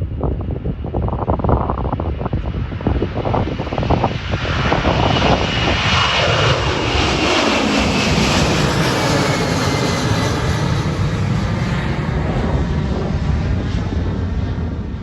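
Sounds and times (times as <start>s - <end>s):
wind buffeting microphone: 0.0s - 15.0s
jet airliner passing by: 0.1s - 15.0s.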